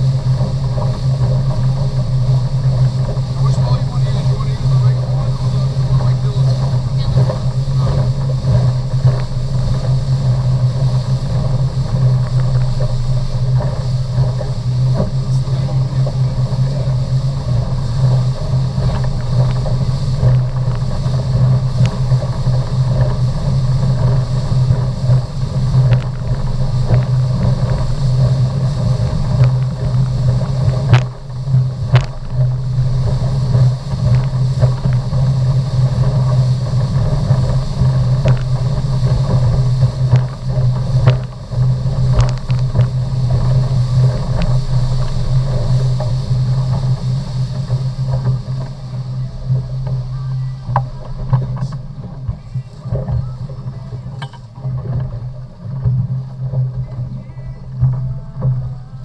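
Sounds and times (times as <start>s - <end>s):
motorboat engine humming: 0.0s - 59.0s
water rushing: 0.0s - 59.0s
wind: 0.0s - 59.0s.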